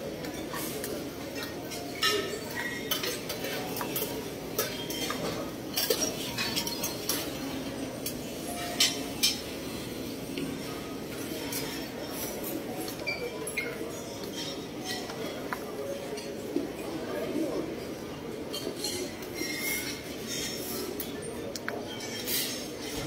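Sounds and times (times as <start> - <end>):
dishes and utensils clinking: 0.0 - 23.0.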